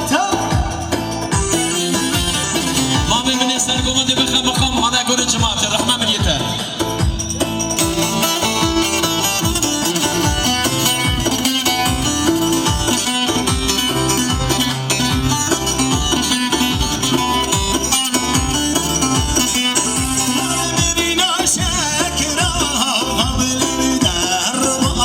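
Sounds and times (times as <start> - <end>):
fast plucked melody: 0.0 - 25.0
steady drum beat: 0.0 - 25.0.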